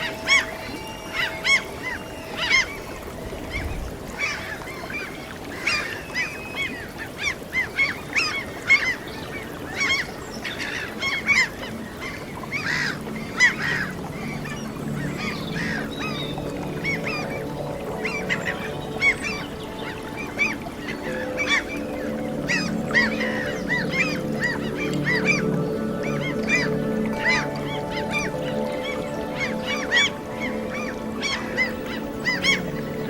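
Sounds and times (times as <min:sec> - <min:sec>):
gulls calling: 0:00.0 - 0:33.0
sea waves: 0:00.0 - 0:33.0.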